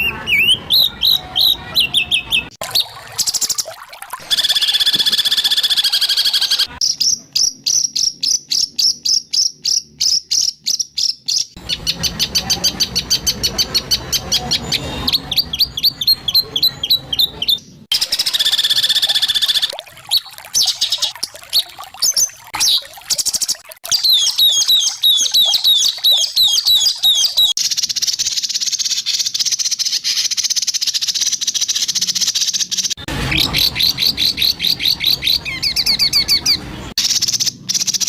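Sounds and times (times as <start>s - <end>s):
bird song whistles and trills: 0.0s - 3.4s, 4.2s - 38.0s.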